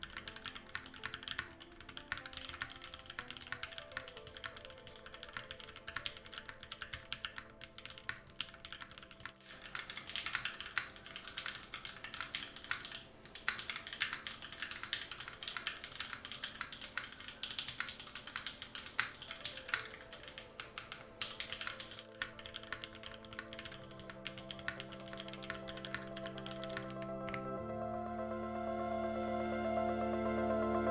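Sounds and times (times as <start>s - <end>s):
mechanical keyboard typing: 0.0s - 27.4s
soft background music: 0.0s - 30.9s.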